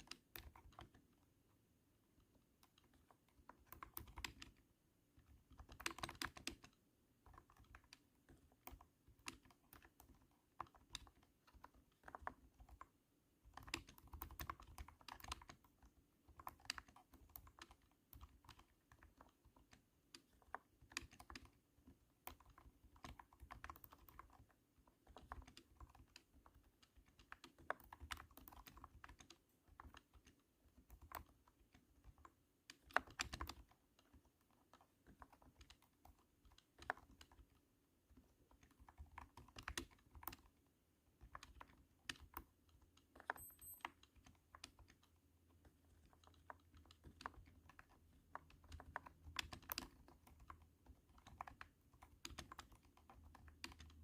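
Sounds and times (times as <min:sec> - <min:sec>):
thunky keyboard typing: 0:00.0 - 0:01.4, 0:02.1 - 0:54.0.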